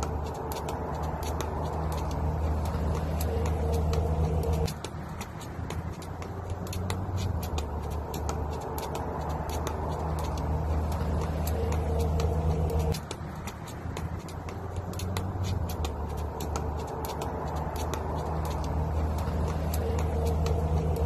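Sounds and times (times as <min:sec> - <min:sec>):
low motor hum: 0:00.0 - 0:21.0
skipping rope slapping the ground: 0:00.0 - 0:21.0.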